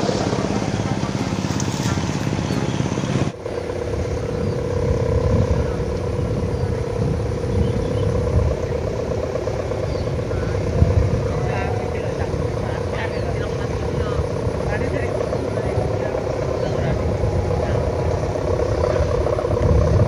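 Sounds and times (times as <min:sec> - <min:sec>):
kite hummer buzzing: 0:00.0 - 0:20.0
wind noise on microphone: 0:00.0 - 0:20.0.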